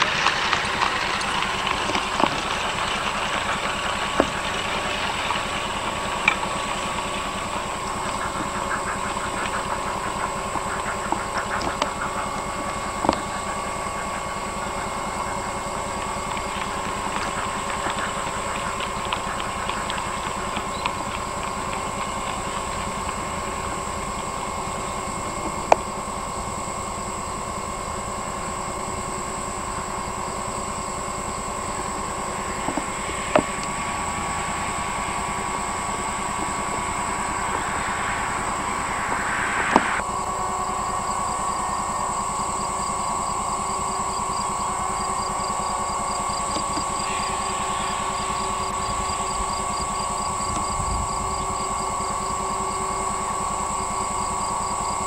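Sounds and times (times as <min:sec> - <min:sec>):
distant steam locomotive chuffing: 0:00.0 - 0:55.0
steady hum and hiss: 0:00.0 - 0:55.0.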